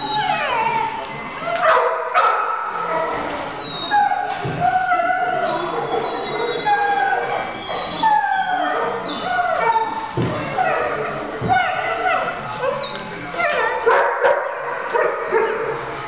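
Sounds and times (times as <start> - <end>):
puppies yipping and whining: 0.0 - 16.0.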